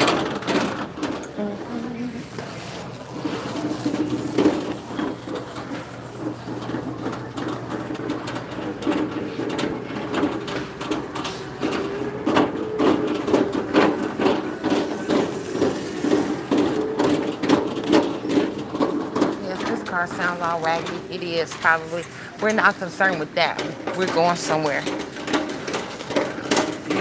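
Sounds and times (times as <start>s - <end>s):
shopping cart wheels rattling: 0.0s - 27.0s.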